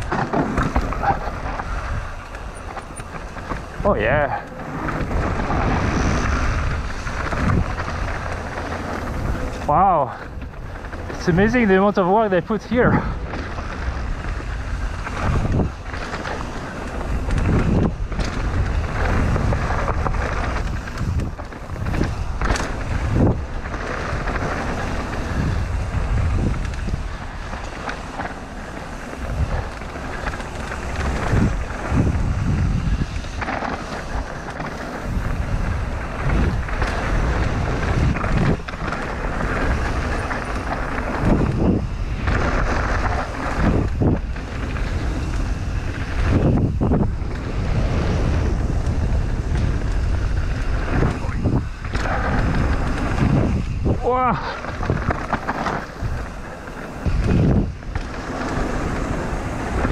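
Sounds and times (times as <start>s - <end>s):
bike knocks and rattles: 0.0s - 59.9s
bike tyres rolling on dirt: 0.0s - 59.9s
wind rushing over microphone: 0.0s - 59.9s.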